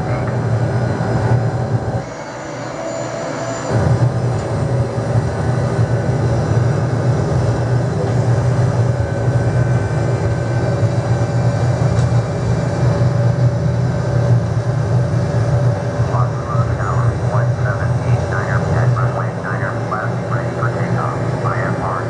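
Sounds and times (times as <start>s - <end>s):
jet engines at takeoff power: 0.0s - 22.0s.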